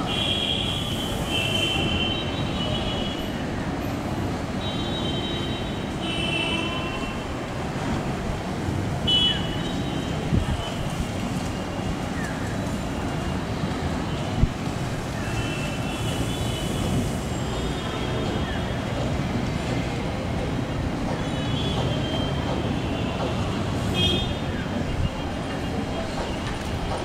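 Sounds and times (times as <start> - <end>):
city traffic noise: 0.0 - 27.0.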